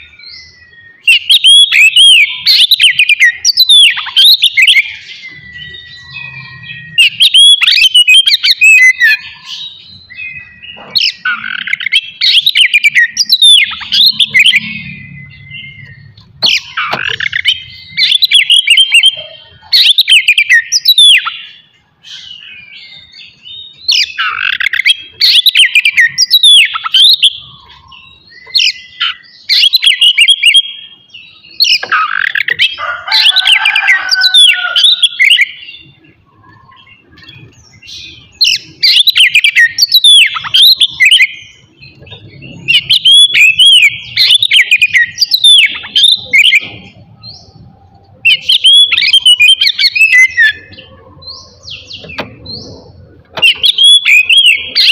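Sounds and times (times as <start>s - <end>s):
bird singing whistled song: 0.0s - 47.6s, 48.2s - 54.9s.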